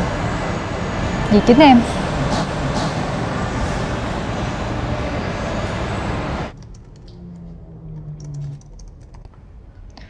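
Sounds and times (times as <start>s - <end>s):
traffic noise: 0.0s - 10.0s.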